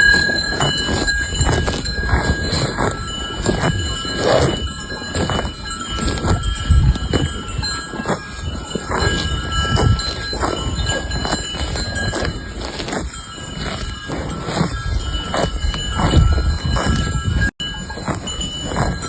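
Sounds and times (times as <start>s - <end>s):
cowbells clanking: 0.0s - 19.0s.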